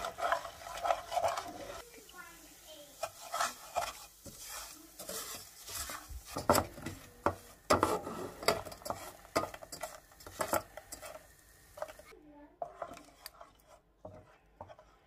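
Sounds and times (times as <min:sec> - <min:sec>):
spatula scraping saucepan: 0:00.0 - 0:15.0.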